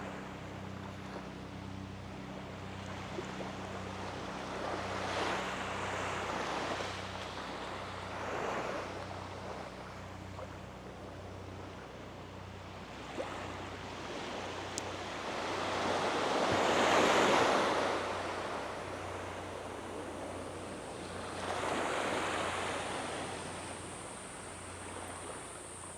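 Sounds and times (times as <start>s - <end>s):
small waves breaking on beach: 2.2s - 25.9s.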